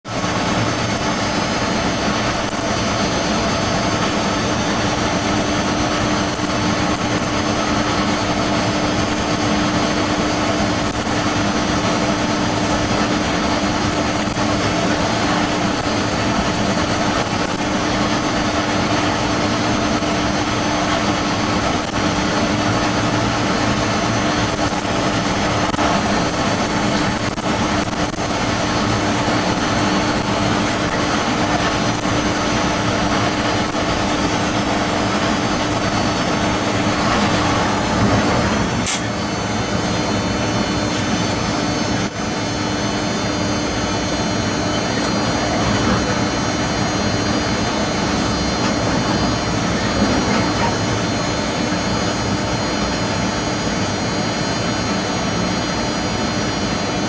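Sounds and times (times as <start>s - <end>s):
constant hum: 0.1s - 57.0s
train running noise: 0.1s - 57.0s.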